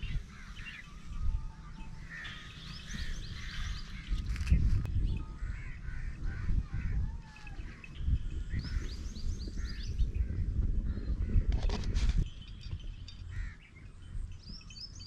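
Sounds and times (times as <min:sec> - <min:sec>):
small birds chirping: 0:00.0 - 0:06.6, 0:07.4 - 0:11.5, 0:12.2 - 0:15.0
wind rumble on microphone: 0:00.0 - 0:15.0.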